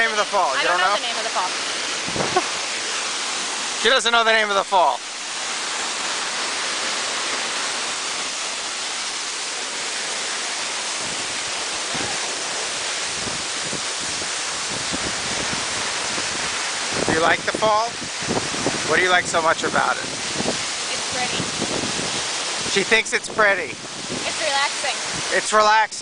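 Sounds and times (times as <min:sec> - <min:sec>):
waterfall rushing: 0:00.0 - 0:26.0
low gusty rumbles: 0:01.0 - 0:03.9, 0:04.6 - 0:25.4.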